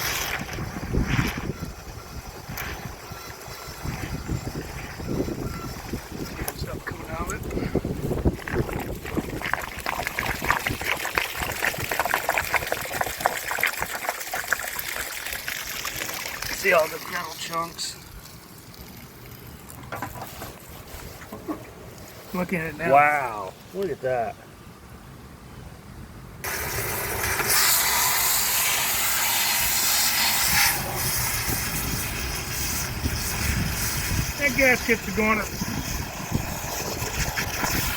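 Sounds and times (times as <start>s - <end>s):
water pouring and splashing: 0.0s - 21.2s, 26.4s - 37.9s.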